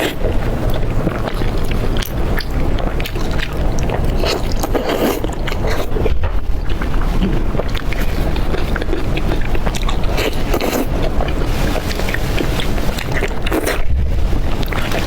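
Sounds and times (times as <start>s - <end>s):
steady low rumble: 0.0s - 15.0s
wet chewing and biting clicks: 0.0s - 15.0s.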